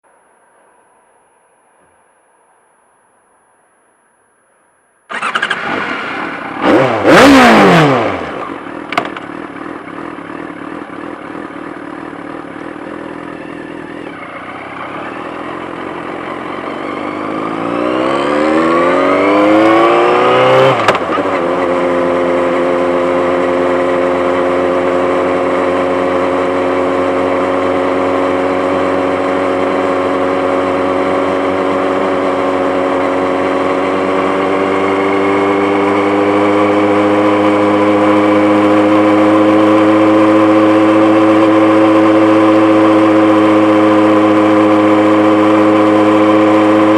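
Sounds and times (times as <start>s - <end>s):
motorcycle engine revving and idling: 5.1s - 46.9s.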